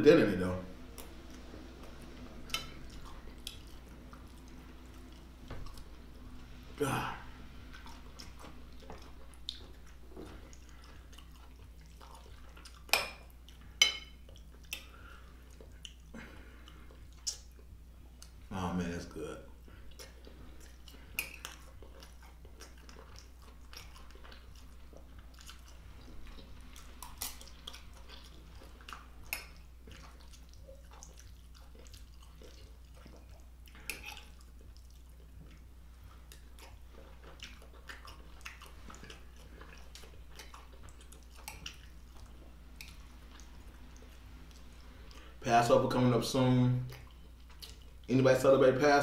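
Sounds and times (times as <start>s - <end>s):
low steady hum: 0.0s - 49.0s
person chewing food: 0.7s - 18.5s, 19.1s - 45.4s, 46.8s - 48.1s.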